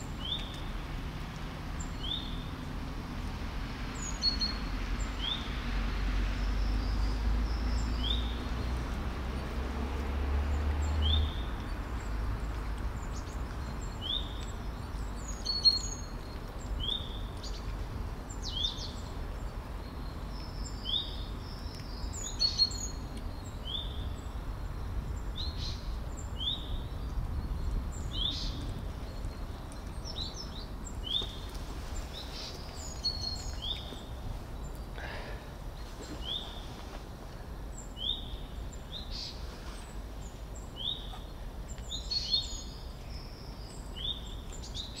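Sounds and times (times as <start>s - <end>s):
songbird chirping: 0.0s - 45.0s.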